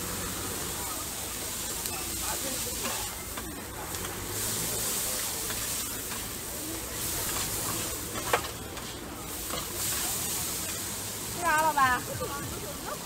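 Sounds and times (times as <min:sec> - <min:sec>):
noodles sizzling on griddle: 0:00.0 - 0:13.0.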